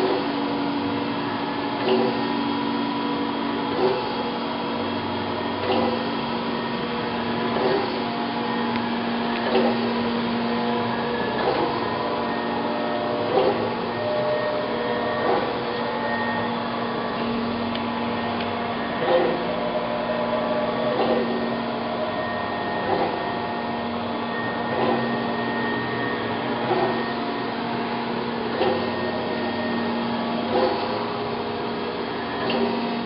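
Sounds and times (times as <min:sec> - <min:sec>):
grinder motor hum: 0:00.0 - 0:33.0.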